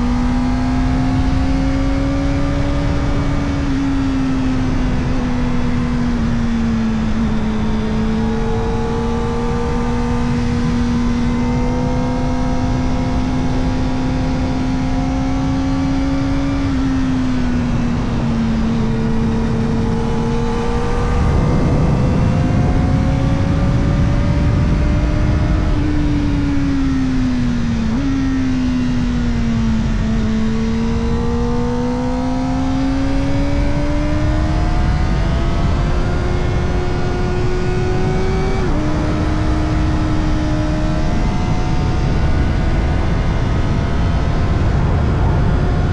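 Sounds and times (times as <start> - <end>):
motorcycle engine accelerating: 0.0 - 45.9
rush of noise: 0.0 - 45.9.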